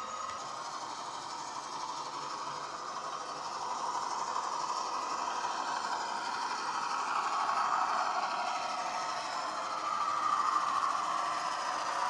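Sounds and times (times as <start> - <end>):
model diesel engine sound from speaker: 0.0 - 12.0.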